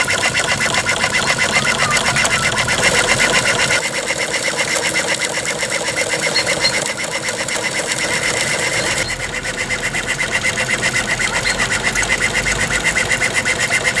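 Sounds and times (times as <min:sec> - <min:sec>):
steam engine chuffing and clattering: 0:00.0 - 0:14.0.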